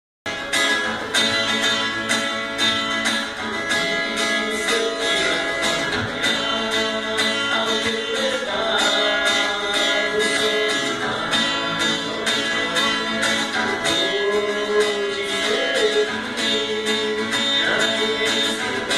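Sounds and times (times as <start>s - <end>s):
guitar-led instrumental: 0.2s - 18.9s.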